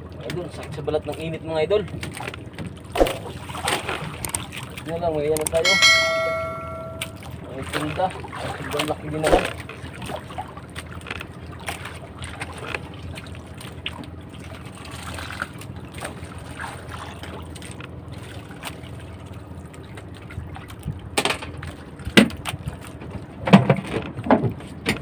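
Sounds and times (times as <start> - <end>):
boat engine running low: 0.0 - 25.0
water sloshing against hull: 0.1 - 5.2, 7.6 - 25.0.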